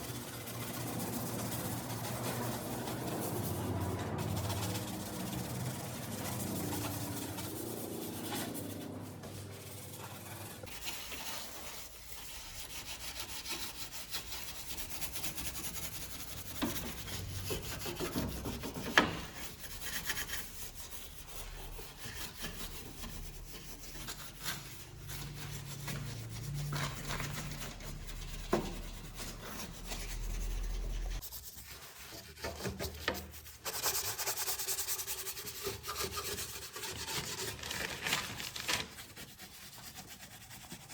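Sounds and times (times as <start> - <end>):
rubbing and scrubbing surfaces: 0.0 - 40.9.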